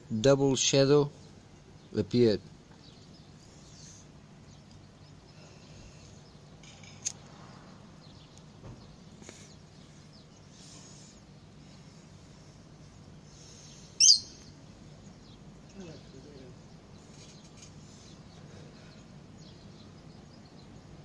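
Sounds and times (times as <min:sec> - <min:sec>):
low steady hum: 0:00.0 - 0:21.0
bird chirps: 0:02.7 - 0:12.0, 0:12.8 - 0:21.0.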